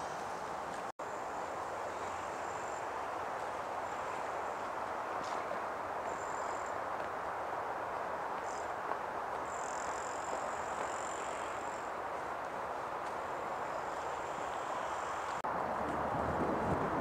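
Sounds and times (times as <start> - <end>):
outdoor rushing noise: 0.0 - 17.0.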